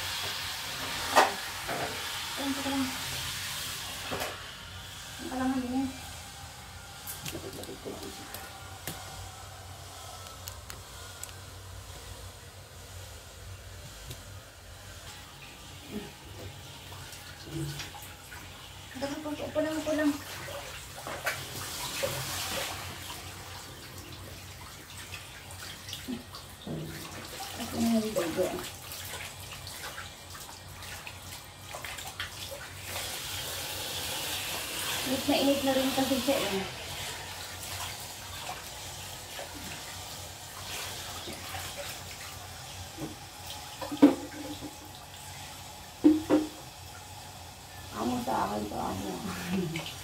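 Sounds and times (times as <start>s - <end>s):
shower water splashing on cat: 0.0s - 50.0s.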